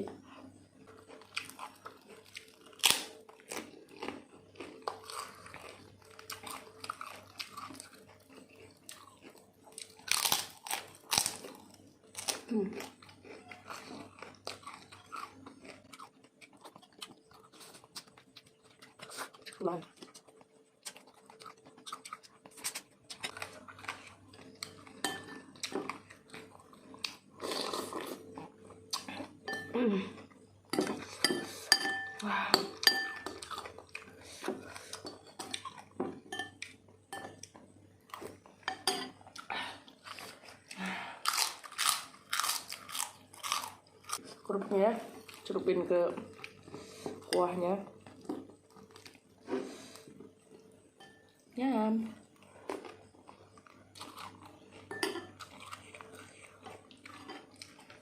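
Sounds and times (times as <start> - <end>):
person chewing crunchy vegetables: 0.0 - 51.5, 52.2 - 58.0.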